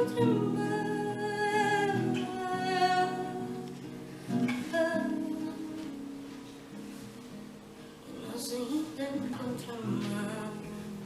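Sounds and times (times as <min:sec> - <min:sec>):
woman singing: 0:00.0 - 0:06.3, 0:08.0 - 0:11.0
acoustic guitar: 0:00.0 - 0:11.0.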